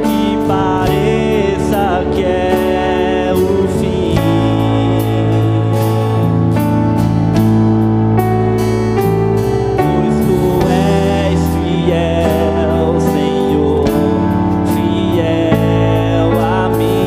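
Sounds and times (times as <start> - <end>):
man singing with vibrato: 0.0 - 7.0, 9.8 - 17.0
bass guitar: 0.0 - 17.0
drums: 0.0 - 17.0
keyboard: 0.0 - 17.0.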